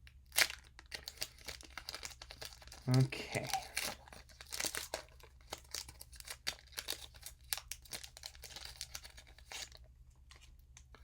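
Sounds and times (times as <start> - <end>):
foil wrapper crinkling and tearing: 0.3 - 11.0.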